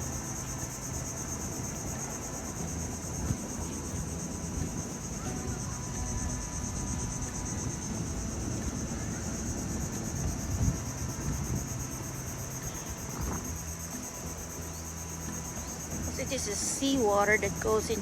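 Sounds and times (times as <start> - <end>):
insects trilling: 0.0 - 18.0
wind rumbling on microphone: 0.0 - 18.0.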